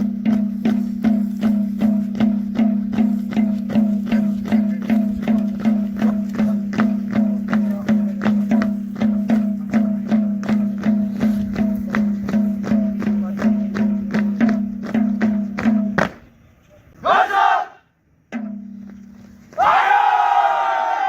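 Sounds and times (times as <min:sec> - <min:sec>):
sharp percussive strikes: 0:00.0 - 0:16.3, 0:18.3 - 0:19.2.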